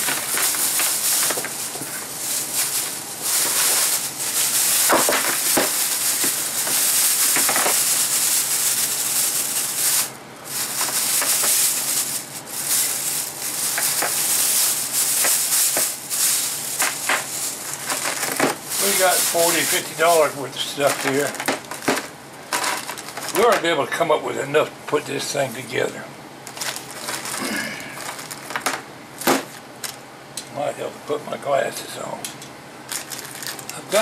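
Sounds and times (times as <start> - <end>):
plastic bags crinkling: 0.0 - 23.7, 26.4 - 30.0, 32.9 - 34.0.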